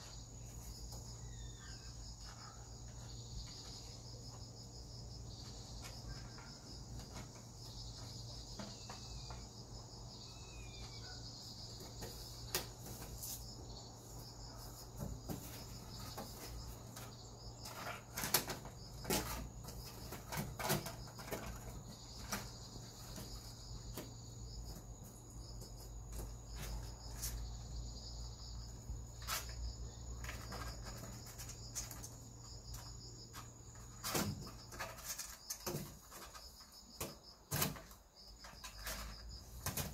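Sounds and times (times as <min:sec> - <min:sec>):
insects chirring: 0:00.0 - 0:39.9
light knocks and scrapes: 0:05.3 - 0:09.6, 0:10.8 - 0:27.8, 0:28.8 - 0:39.9.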